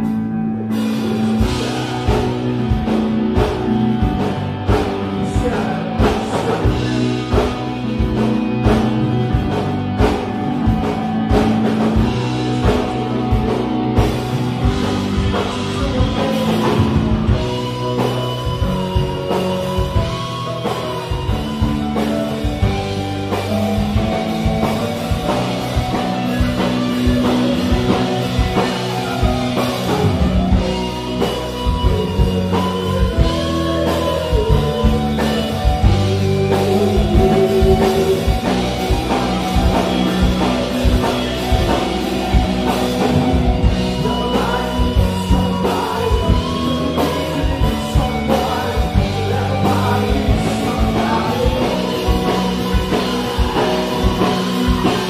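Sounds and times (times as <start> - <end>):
drum kit beat: 0.0 - 55.0
live rock band playing: 0.0 - 55.0
sustained wavering guitar notes: 0.0 - 55.0.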